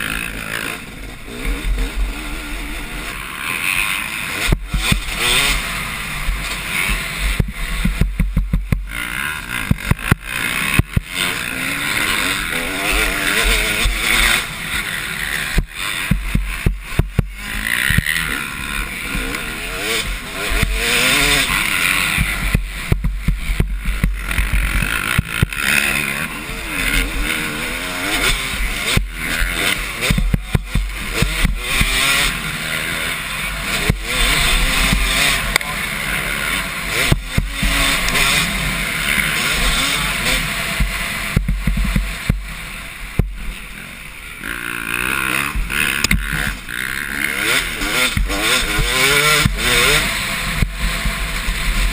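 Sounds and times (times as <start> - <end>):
motocross bikes revving: 0.0 - 51.9.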